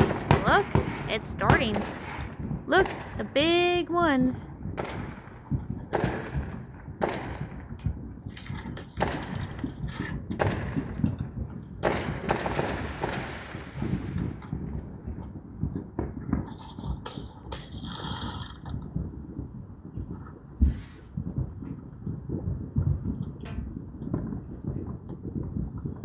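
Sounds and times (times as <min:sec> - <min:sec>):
aerial fireworks booming: 0:00.0 - 0:26.0.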